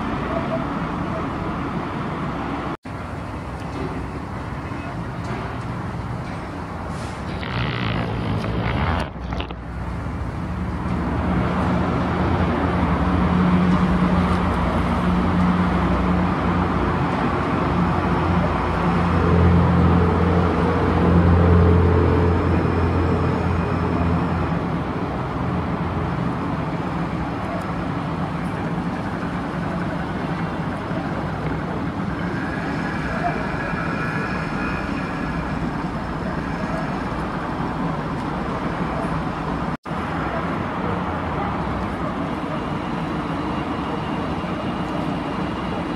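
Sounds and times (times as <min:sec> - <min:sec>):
road traffic hum: 0:00.0 - 0:45.9.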